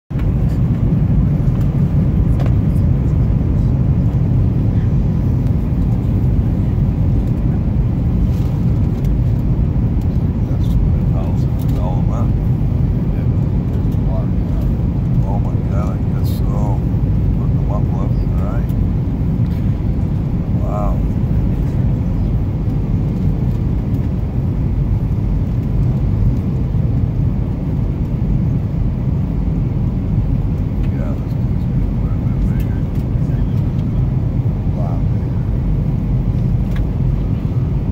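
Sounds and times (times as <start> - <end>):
jet engines rumbling: 0.1 - 37.9.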